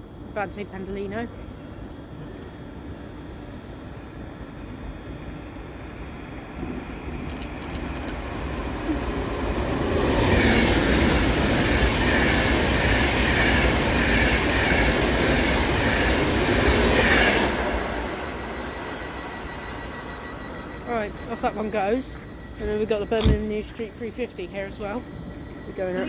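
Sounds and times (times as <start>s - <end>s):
electric train passing at speed: 0.0s - 25.7s.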